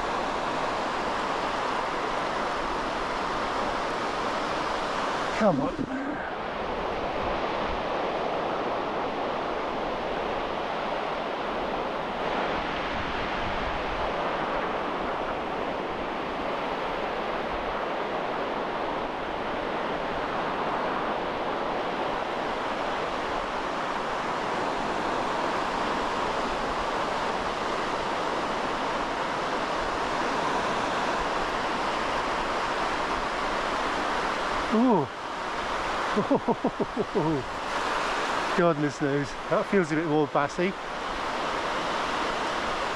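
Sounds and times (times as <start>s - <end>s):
small waves washing on sand: 0.0s - 42.9s.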